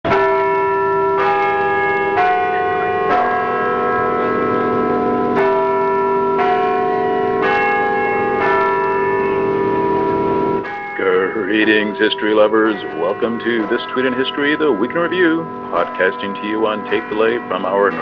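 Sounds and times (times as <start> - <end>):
bells ringing: 0.1 - 18.0.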